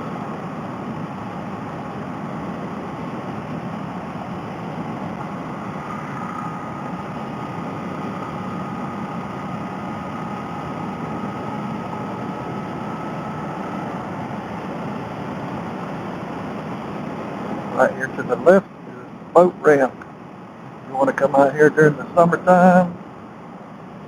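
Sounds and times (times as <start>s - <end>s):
faint thin whine: 0.0s - 24.0s.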